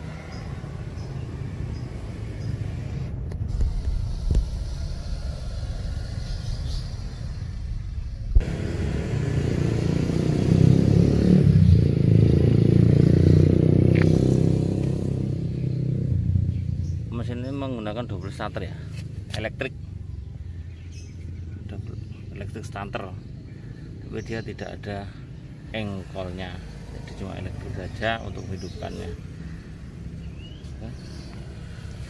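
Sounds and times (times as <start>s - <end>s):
atv engine rumbling: 0.0s - 32.0s.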